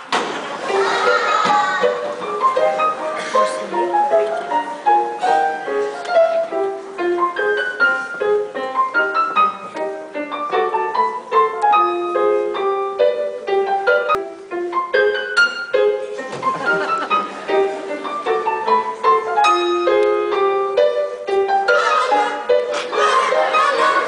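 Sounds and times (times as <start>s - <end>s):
pianos playing a fast tune: 0.0s - 24.0s.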